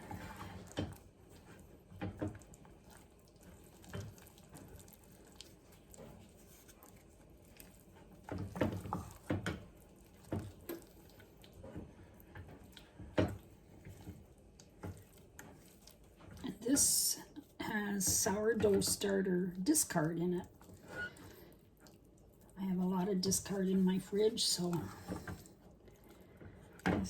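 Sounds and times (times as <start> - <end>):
spoon stirring in saucepan: 0.0 - 22.4.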